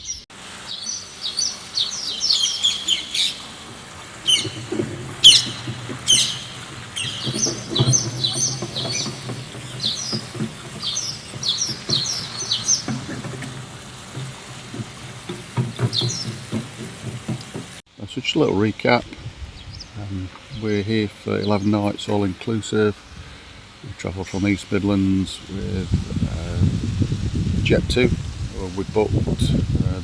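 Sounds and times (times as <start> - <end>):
small birds chirping: 0.0 - 19.0, 19.6 - 26.6.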